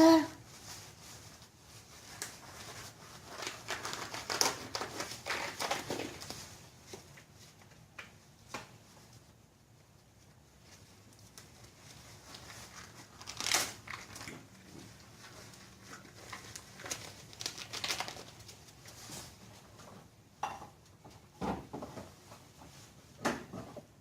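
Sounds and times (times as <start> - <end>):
rustling and crinkling: 0.0 - 24.0.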